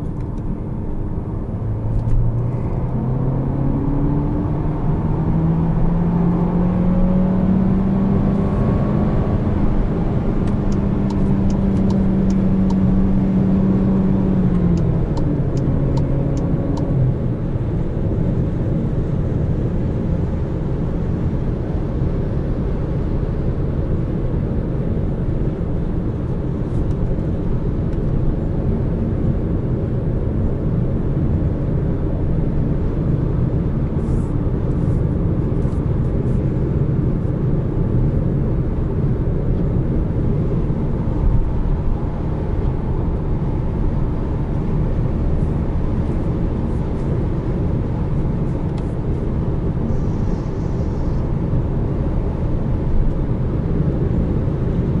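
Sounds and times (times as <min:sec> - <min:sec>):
low engine hum: 0:00.0 - 0:55.0
road and tyre noise: 0:00.0 - 0:55.0.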